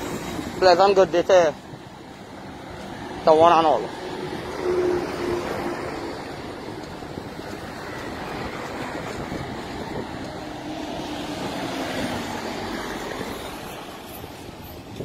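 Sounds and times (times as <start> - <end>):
road traffic noise: 0.0 - 15.0
vehicle passing: 2.1 - 15.0.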